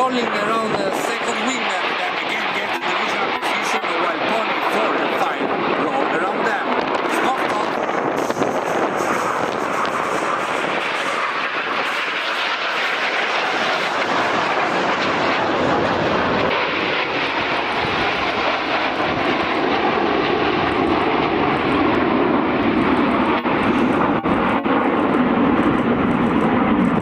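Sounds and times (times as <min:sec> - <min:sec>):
jets flying past roaring: 0:00.0 - 0:27.0.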